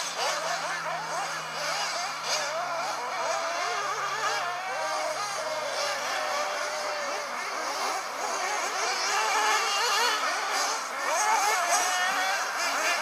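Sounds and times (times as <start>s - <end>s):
rc buggy engines whining: 0.0s - 13.0s.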